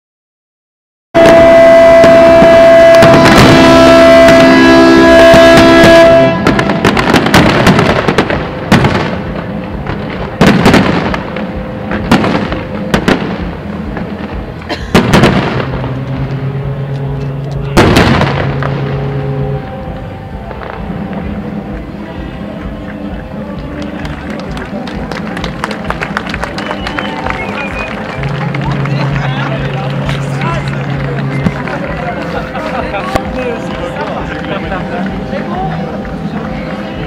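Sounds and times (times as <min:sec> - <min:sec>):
music of sustained chords: 0:01.2 - 0:37.0.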